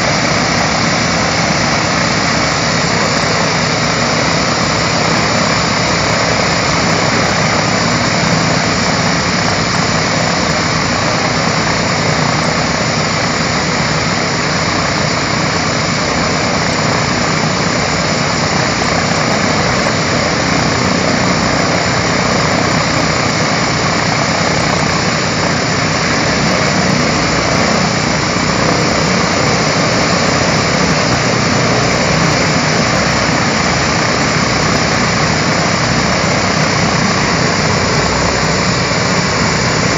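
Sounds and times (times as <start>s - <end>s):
radial aircraft engines idling: 0.0s - 39.9s.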